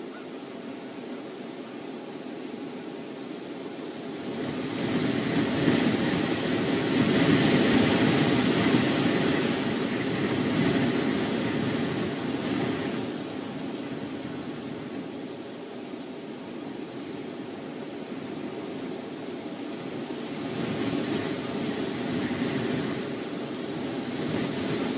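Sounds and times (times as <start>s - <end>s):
wind gust on microphone: 2.6s - 24.9s.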